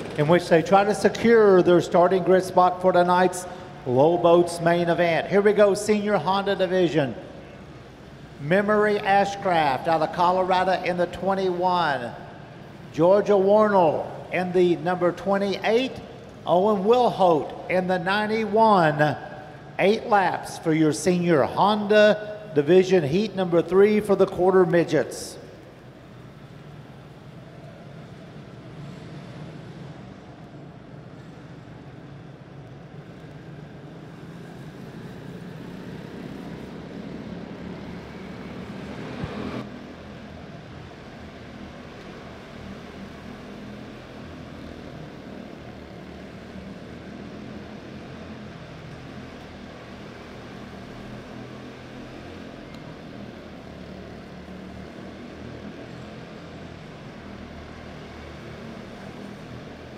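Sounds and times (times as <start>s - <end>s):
race car engines buzzing: 0.0s - 59.9s.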